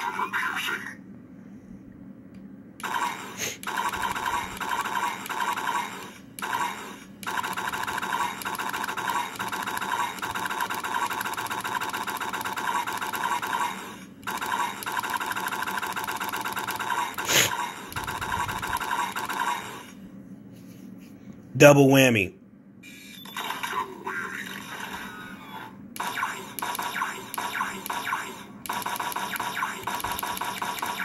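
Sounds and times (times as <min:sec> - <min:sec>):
electronic gunfire buzzing rattle: 0:02.8 - 0:20.0, 0:23.2 - 0:31.0.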